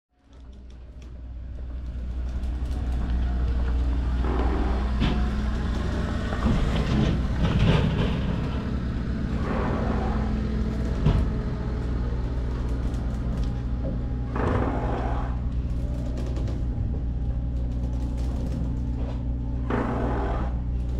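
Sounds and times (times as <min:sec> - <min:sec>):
engine humming: 0:00.2 - 0:20.9.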